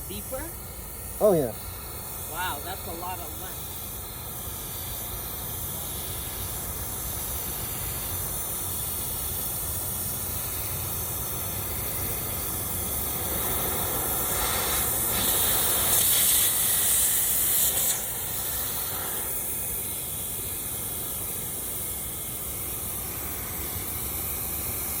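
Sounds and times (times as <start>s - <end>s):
compressed air hissing through duct: 0.0s - 25.0s.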